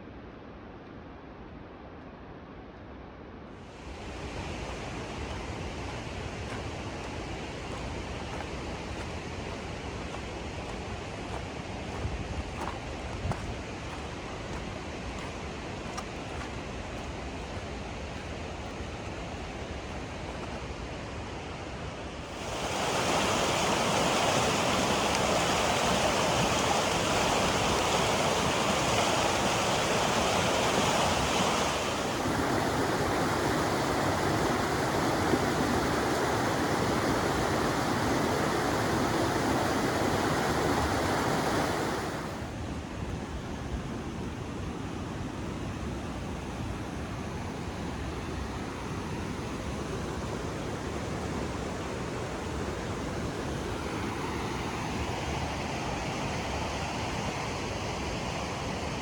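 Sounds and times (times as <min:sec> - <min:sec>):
rushing water roar: 0:03.6 - 0:59.0.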